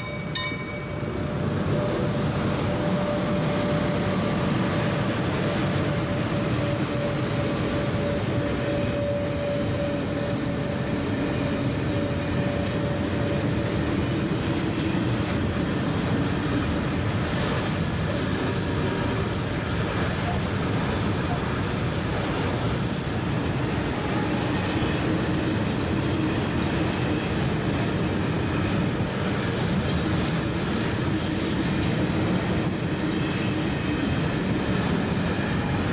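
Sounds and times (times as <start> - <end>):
freight train wheels rumbling: 0.0 - 35.9.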